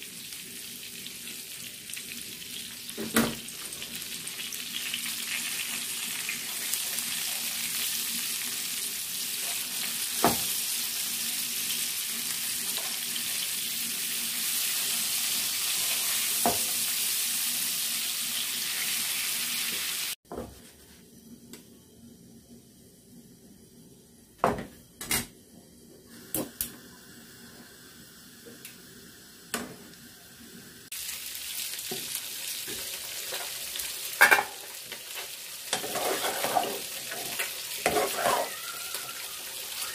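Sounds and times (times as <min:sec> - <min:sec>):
fish sizzling in oil: 0:00.0 - 0:20.2, 0:26.2 - 0:39.9.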